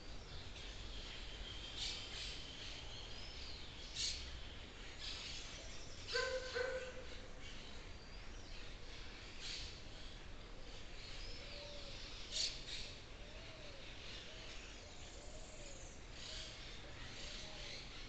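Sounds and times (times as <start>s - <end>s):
forest birds chirping: 0.0s - 18.0s.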